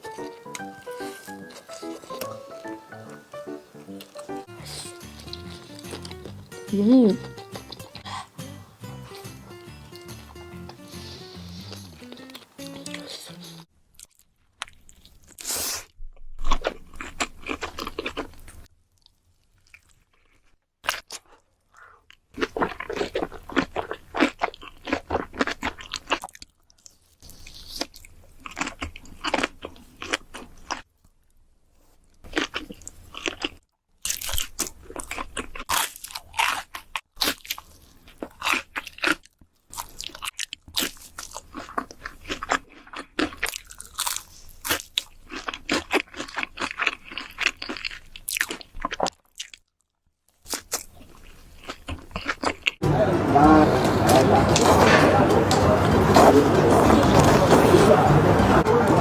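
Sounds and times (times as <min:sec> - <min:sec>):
crunching and chewing crisp food: 0:00.0 - 0:59.0.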